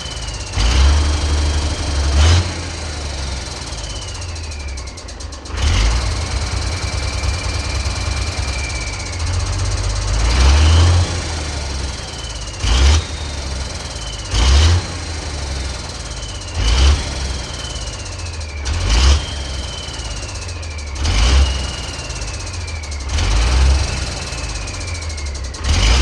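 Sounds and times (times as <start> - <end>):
turbo whistle: 0.0 - 5.2, 5.8 - 26.0
truck engine revving: 0.0 - 26.0.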